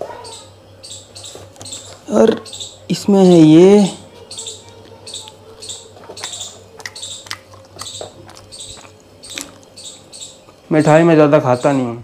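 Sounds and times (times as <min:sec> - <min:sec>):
steady fridge hum: 0:00.0 - 0:12.0
high chirp: 0:00.2 - 0:12.0.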